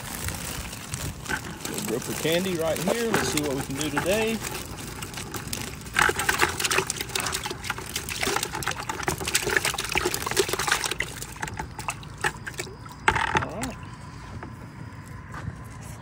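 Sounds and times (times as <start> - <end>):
fish splashing into water: 0.0 - 13.8
water trickling: 0.0 - 14.0.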